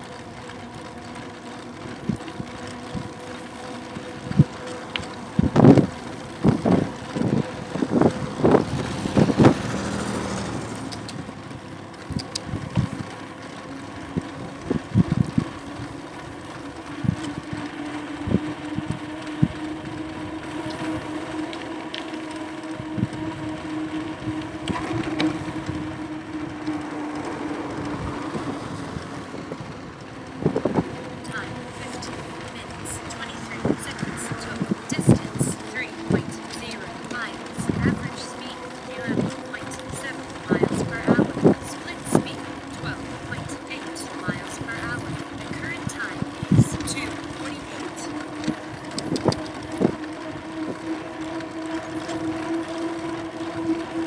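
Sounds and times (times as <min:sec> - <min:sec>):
motor hum: 0:00.0 - 0:54.0
wind noise: 0:03.9 - 0:13.2, 0:14.0 - 0:38.3, 0:38.9 - 0:54.0.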